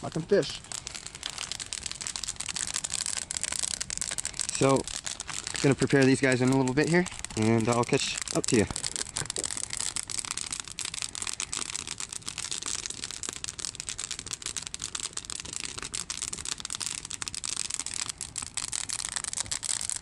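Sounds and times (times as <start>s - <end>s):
campfire crackling and popping: 0.0s - 20.0s
steady fire hiss: 0.0s - 20.0s.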